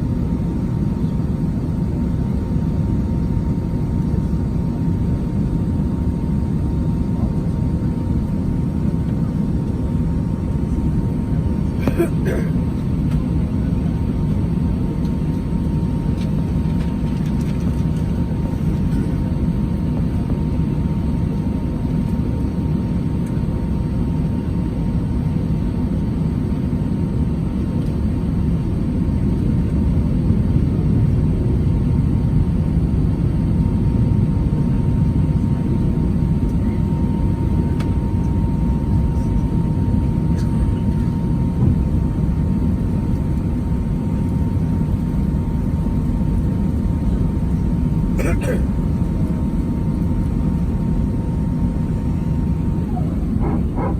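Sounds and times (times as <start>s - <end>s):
aircraft cabin rumble: 0.0s - 53.9s.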